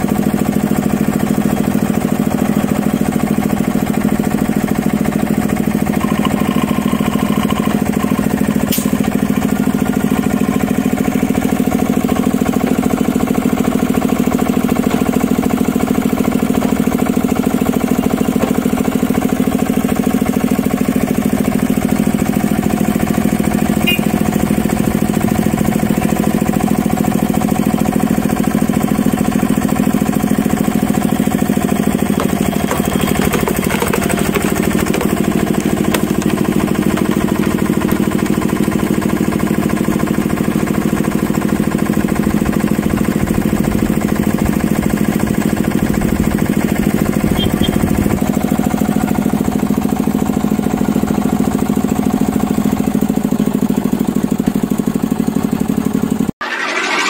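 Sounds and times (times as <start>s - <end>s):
log splitter engine running: 0.0s - 57.0s.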